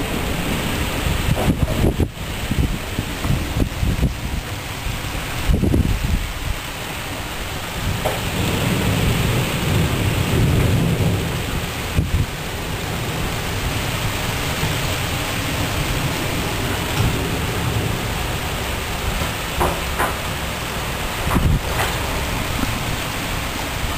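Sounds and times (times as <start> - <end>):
thunder rumbling: 0.0 - 23.9
wind and rain: 0.0 - 23.9.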